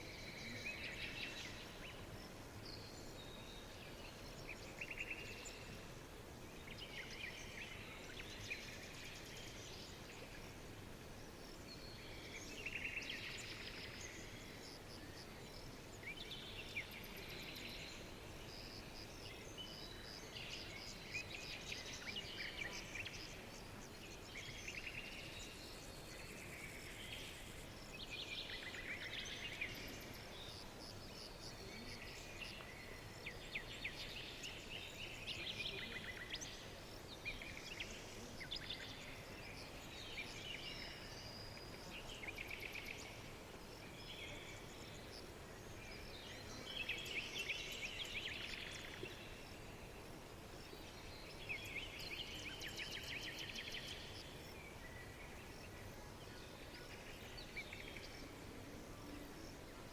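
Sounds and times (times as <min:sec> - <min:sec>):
faint steady background hiss: 0:00.0 - 0:59.9.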